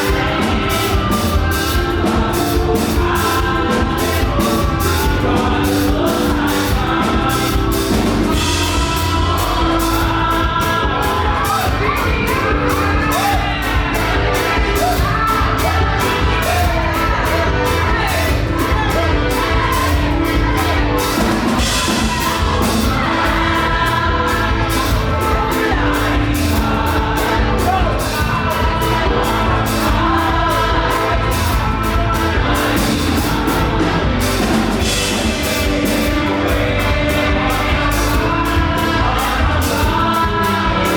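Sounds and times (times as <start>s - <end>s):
crowd whooping: 0.0s - 40.9s
group singing: 0.0s - 40.9s
live gospel band: 0.0s - 40.9s.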